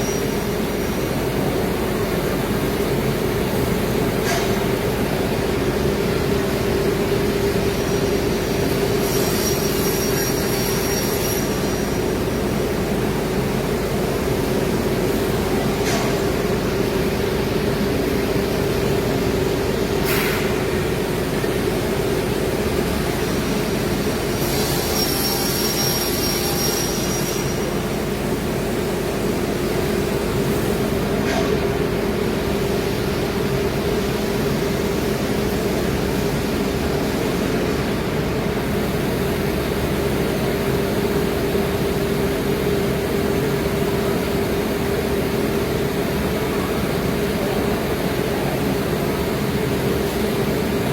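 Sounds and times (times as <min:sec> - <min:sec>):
router machine hum and hiss: 0:00.0 - 0:50.9
high whine with hiss: 0:04.3 - 0:50.9.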